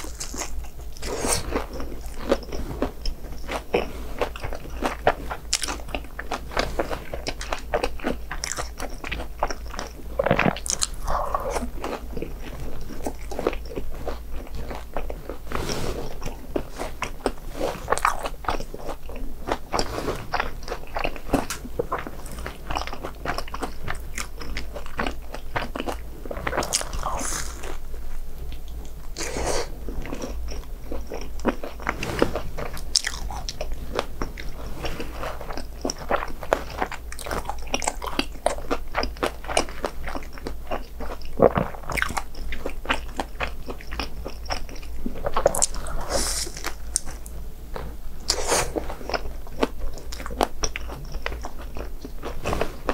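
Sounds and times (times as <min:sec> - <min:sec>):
crunchy eating and chewing: 0:00.0 - 0:52.9.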